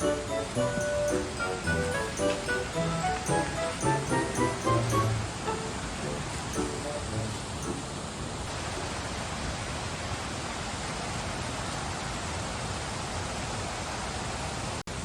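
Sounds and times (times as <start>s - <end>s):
waterfall rushing: 0.0s - 13.1s.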